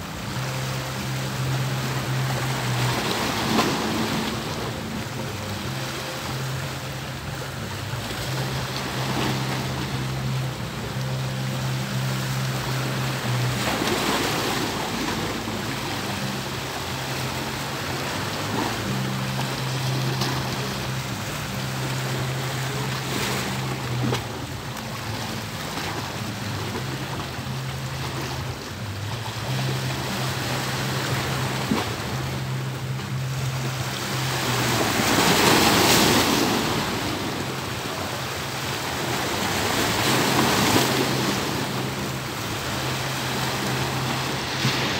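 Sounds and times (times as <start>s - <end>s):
low steady hum: 0.0s - 44.9s
small sea waves breaking: 0.0s - 44.9s.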